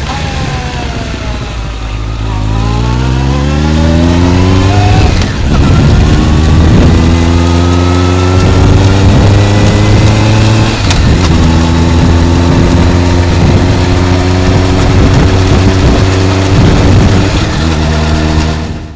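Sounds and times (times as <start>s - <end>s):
motorcycle engine accelerating: 0.0s - 18.9s
wind noise on microphone: 0.0s - 18.9s.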